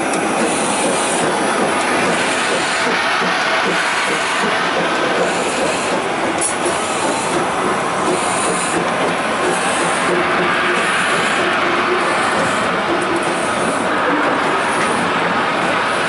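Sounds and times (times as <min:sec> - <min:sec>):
train wheels rolling on track: 0:00.0 - 0:16.0.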